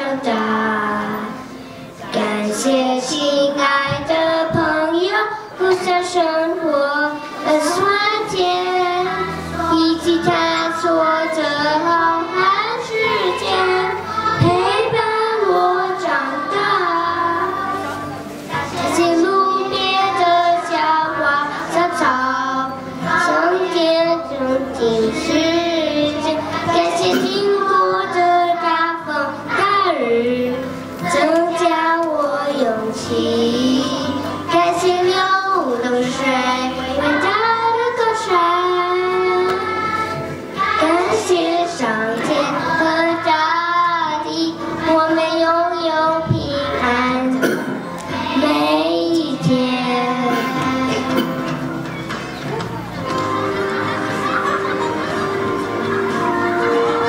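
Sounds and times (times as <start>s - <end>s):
children singing: 0.0s - 57.0s.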